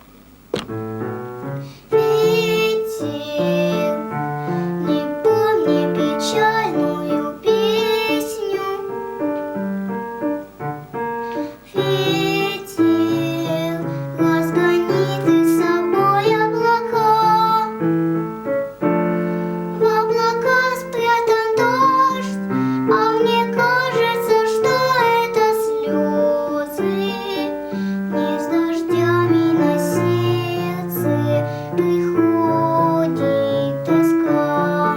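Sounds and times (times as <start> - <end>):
piano accompaniment: 0.0 - 34.9
girl singing a slow song: 1.6 - 9.7, 11.2 - 34.9.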